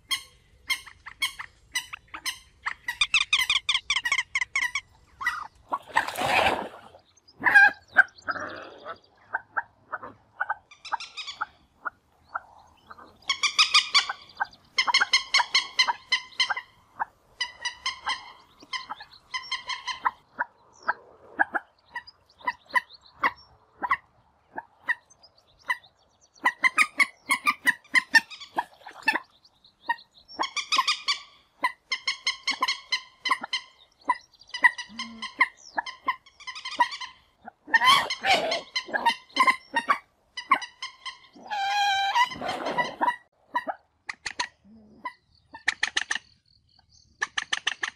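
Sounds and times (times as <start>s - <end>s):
moorhens calling: 0.0s - 47.9s.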